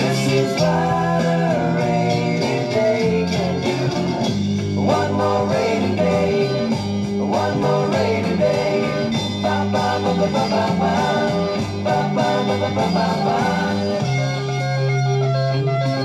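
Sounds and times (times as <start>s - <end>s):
rock song from a vinyl record: 0.0s - 16.0s.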